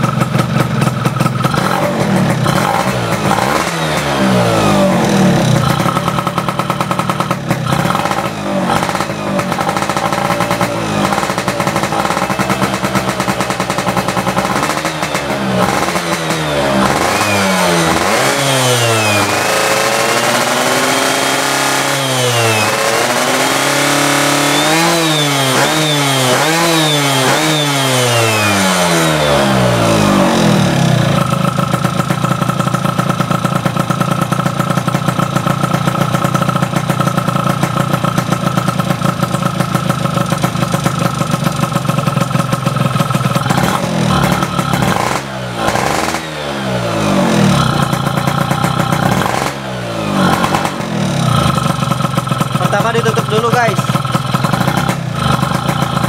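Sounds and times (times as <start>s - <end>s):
two-stroke engine revving and idling: 0.0s - 56.0s.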